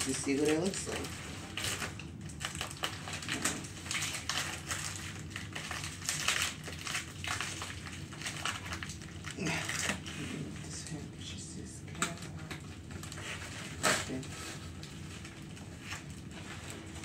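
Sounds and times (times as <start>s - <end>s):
plastic mailer bag crinkling: 0.0s - 11.0s, 12.0s - 17.0s.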